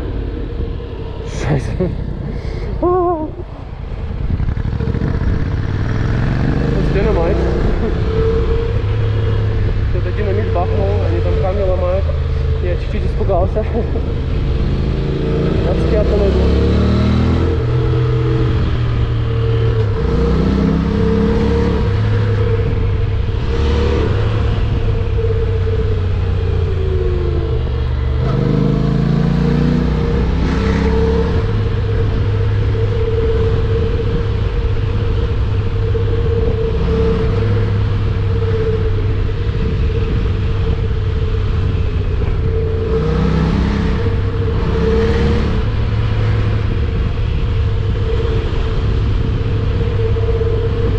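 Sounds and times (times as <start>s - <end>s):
motorcycle engine revving: 4.0s - 50.9s.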